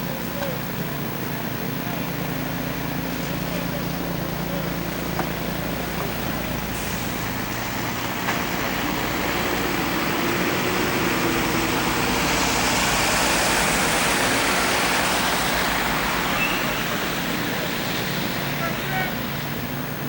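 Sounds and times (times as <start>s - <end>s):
car tyres hissing on wet street: 0.0s - 20.0s.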